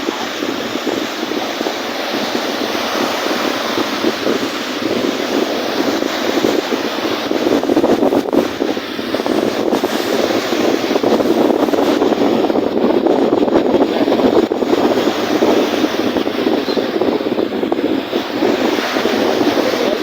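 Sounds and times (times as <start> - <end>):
lake waves: 0.0 - 20.0
wind gusting: 0.0 - 20.0.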